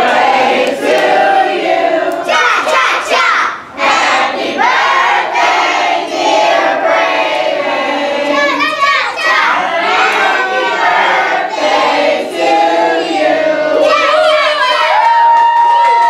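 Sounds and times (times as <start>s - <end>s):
children singing and shouting: 0.0s - 15.1s.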